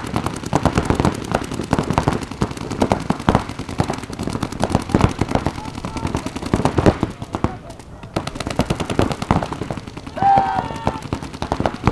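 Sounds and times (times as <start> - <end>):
paintball markers firing: 0.0 - 11.9.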